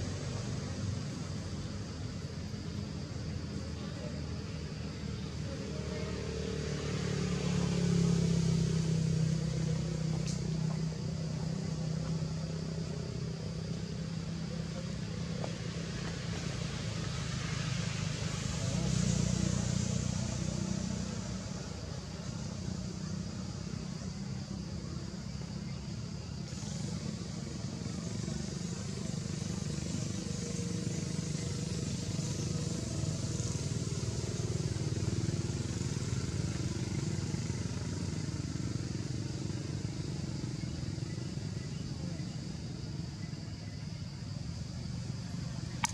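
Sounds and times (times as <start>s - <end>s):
low engine hum: 0.0s - 45.9s
high hiss: 5.8s - 45.9s.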